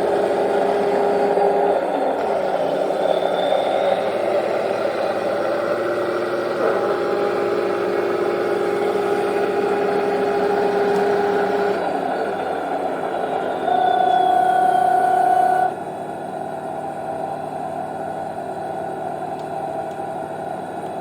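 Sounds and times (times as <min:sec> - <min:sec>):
simulated tank engine through speaker: 0:00.0 - 0:21.0.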